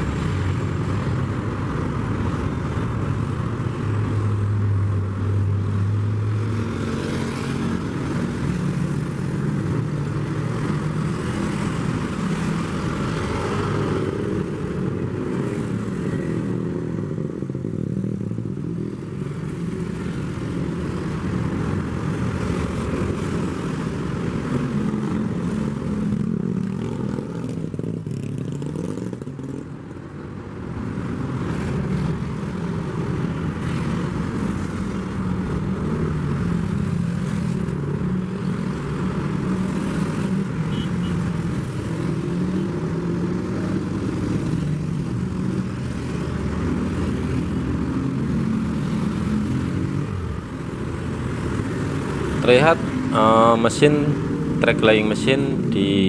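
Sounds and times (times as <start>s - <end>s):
cars driving: 0.0s - 56.0s
motorcycles: 0.0s - 56.0s.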